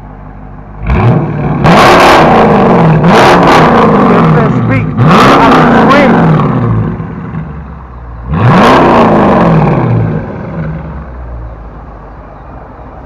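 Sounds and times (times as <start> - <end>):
car exhaust drone and revving: 0.0 - 13.0.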